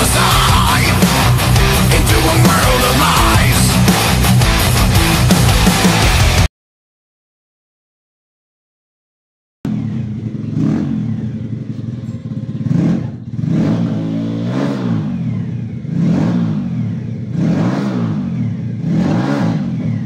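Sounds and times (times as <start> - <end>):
engine revving up and down: 0.0 - 6.5, 9.7 - 20.0.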